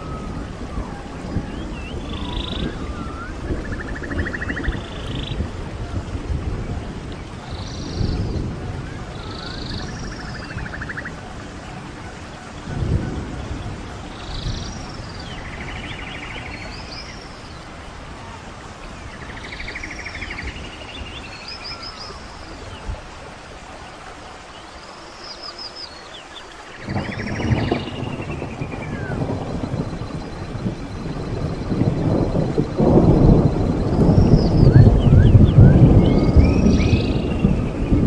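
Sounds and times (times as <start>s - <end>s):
background hiss: 0.0s - 38.0s
songbirds singing: 0.0s - 38.0s.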